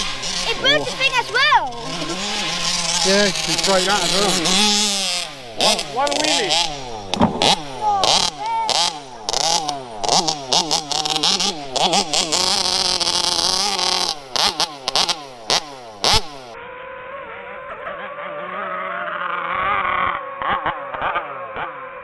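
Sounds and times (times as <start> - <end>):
rc car motor revving: 0.0 - 22.0.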